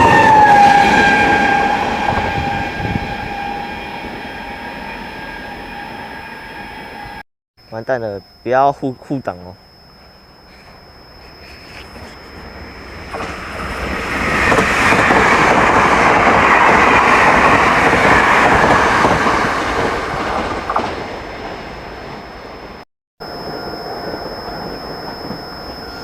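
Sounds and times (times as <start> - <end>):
train passing: 0.0 - 7.2, 10.5 - 26.0.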